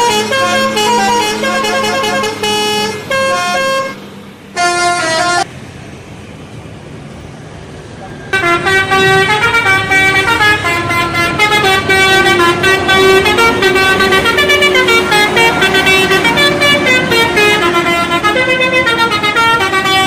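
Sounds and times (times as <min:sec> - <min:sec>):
bus horns playing a tune: 0:00.0 - 0:05.5, 0:08.3 - 0:20.0.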